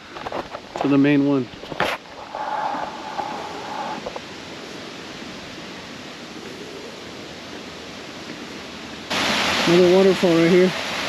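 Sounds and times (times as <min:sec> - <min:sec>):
waterfall rushing: 0:02.0 - 0:11.0.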